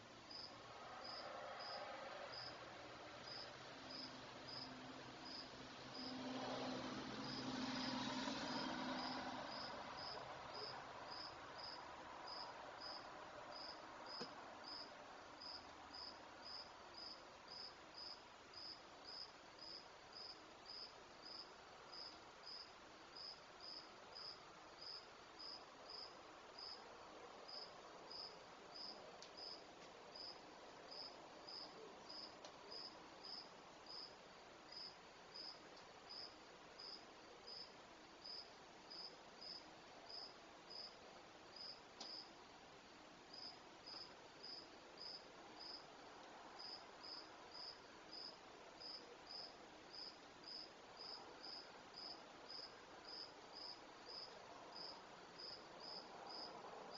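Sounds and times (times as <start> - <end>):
low hiss: 0.0 - 56.9
cricket chirping: 0.3 - 2.6, 3.2 - 6.2, 8.5 - 26.8, 27.5 - 42.4, 43.3 - 45.8, 46.6 - 56.6.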